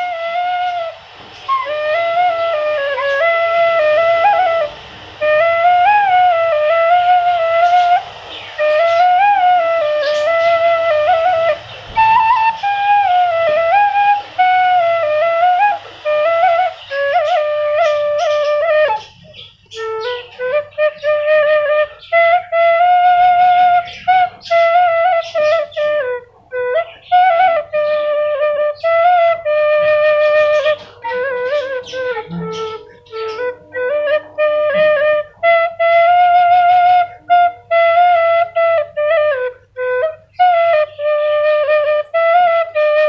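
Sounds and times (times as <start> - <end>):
bamboo flute melody: 0.0 - 43.0.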